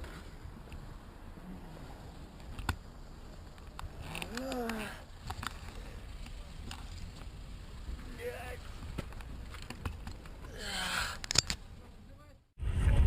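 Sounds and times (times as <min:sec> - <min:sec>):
car road and engine rumble: 0:00.0 - 0:12.3.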